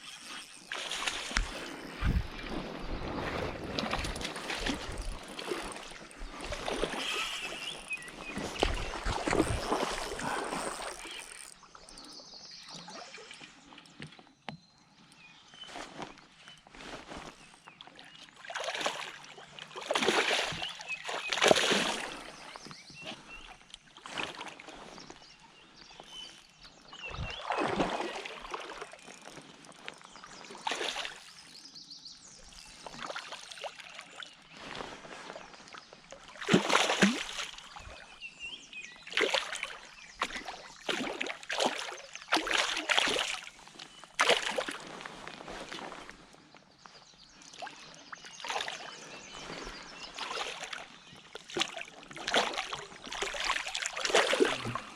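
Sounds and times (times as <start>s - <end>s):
water splashing around kayak: 0.0s - 14.2s, 16.8s - 54.9s.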